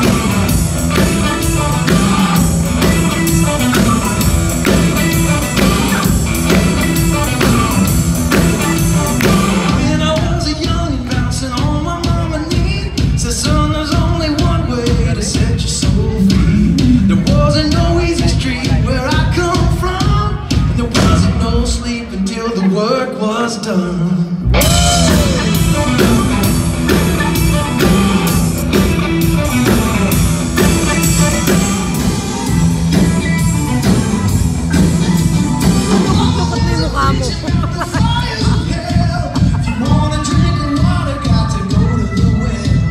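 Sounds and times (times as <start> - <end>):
drum kit beat: 0.0 - 22.2, 24.4 - 42.9
man singing: 0.0 - 28.9, 34.7 - 42.9
live band playing: 0.0 - 42.9.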